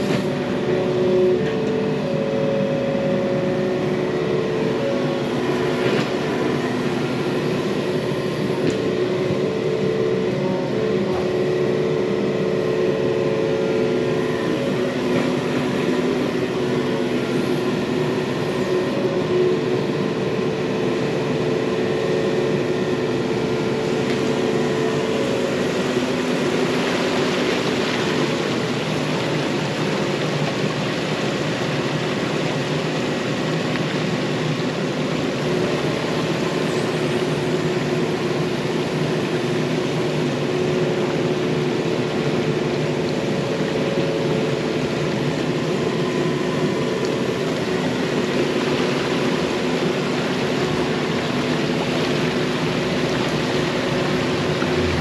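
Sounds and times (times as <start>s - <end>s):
diesel engine running: 0.0s - 55.0s
steady whining tones: 0.0s - 55.0s.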